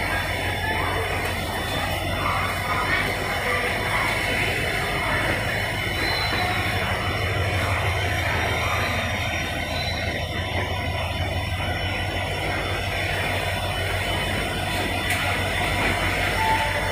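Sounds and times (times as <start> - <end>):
train coach rumbling on track: 0.0 - 16.9.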